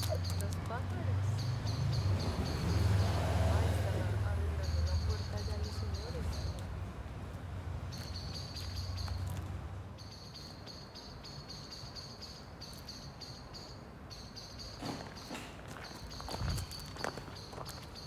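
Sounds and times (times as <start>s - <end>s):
birds chirping: 0.0s - 6.9s, 7.8s - 18.0s.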